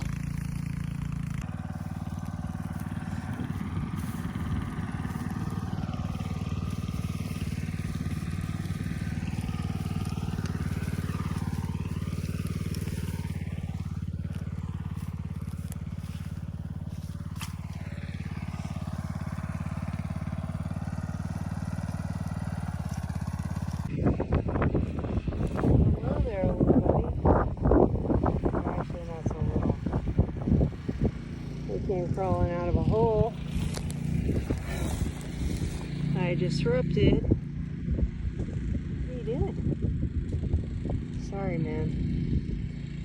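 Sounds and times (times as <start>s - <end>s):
tines churning soil: 0.0s - 23.9s, 25.1s - 37.7s
rototiller engine running: 0.0s - 43.0s.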